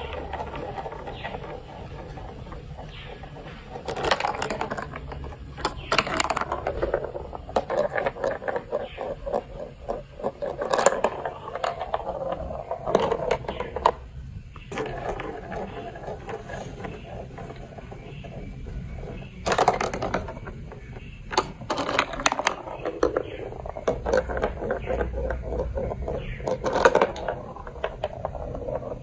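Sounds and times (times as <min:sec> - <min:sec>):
plastic blocks clicking and clattering: 0:00.0 - 0:29.0.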